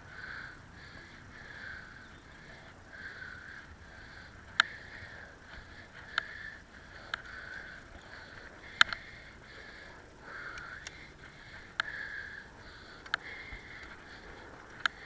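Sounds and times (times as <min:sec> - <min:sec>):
bicycle tyres hissing: 0:00.0 - 0:15.0.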